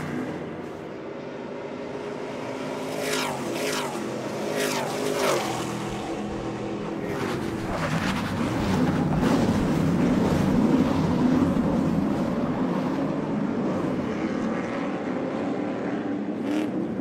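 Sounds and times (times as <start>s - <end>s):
racing trucks passing at full throttle: 0.0s - 17.0s.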